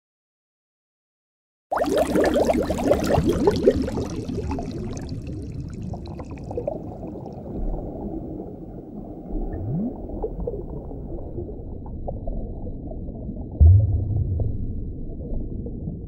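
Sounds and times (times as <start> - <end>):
water bubbling: 1.7 - 16.0
muffled underwater rumble: 3.0 - 16.0.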